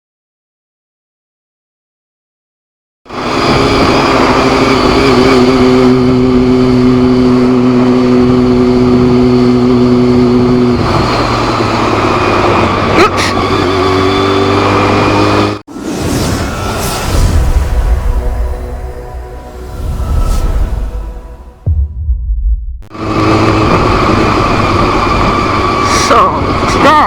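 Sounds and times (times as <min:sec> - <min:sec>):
road vehicle drone: 0:03.1 - 0:27.0.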